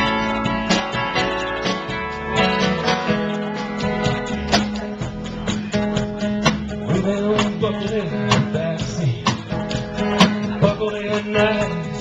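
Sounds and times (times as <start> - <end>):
sliding steel guitar notes: 0.0 - 12.0
strummed acoustic guitar: 0.0 - 12.0
upright bass: 0.0 - 12.0.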